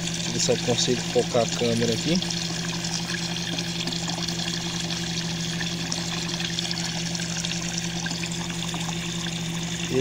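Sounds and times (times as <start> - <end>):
air pump humming: 0.0 - 10.0
water trickling: 0.0 - 10.0.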